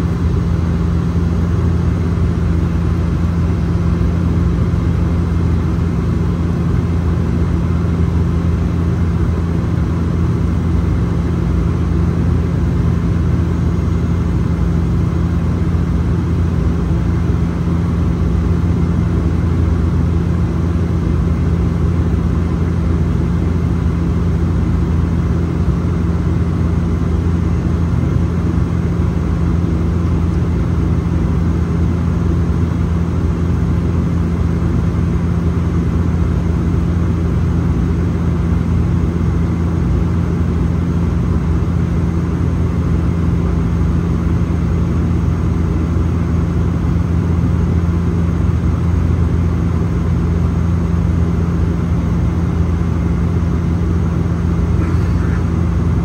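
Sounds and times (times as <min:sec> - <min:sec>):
propeller hum: 0:00.0 - 0:56.0.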